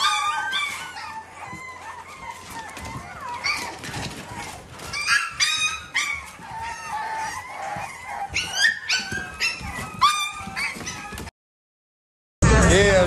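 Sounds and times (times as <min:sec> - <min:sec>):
puppies whining: 0:00.0 - 0:11.4
puppies yelping: 0:00.0 - 0:11.4.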